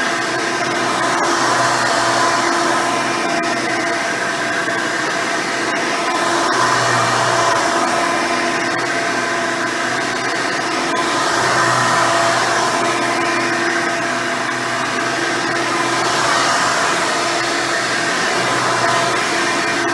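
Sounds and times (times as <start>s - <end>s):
upright vacuum cleaner whine: 0.0s - 19.9s.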